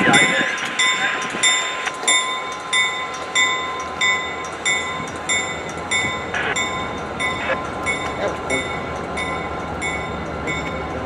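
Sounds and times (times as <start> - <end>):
crossing warning bell ringing: 0.0 - 11.0
freight train rumbling past: 0.0 - 11.0.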